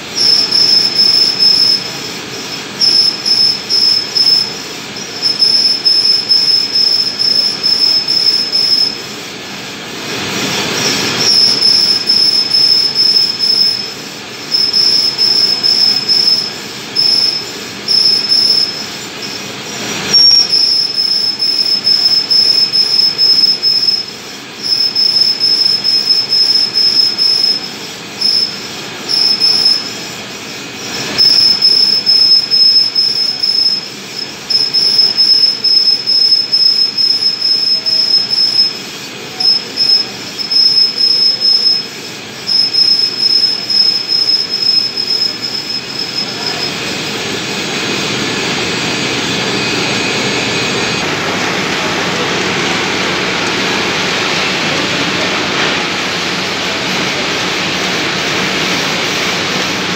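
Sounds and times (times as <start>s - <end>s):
lathe running: 0.0s - 59.9s.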